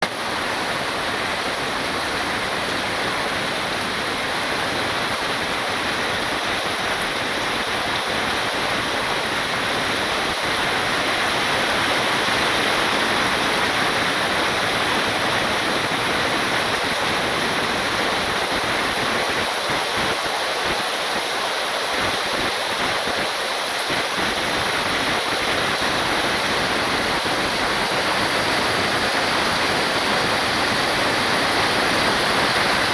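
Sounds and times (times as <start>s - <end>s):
heavy rain hissing: 0.1s - 32.9s.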